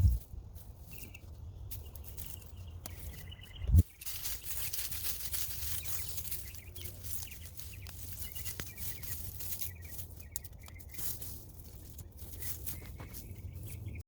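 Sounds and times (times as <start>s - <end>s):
digging through soil and plants: 0.0s - 14.0s
small birds chirping: 0.0s - 14.0s.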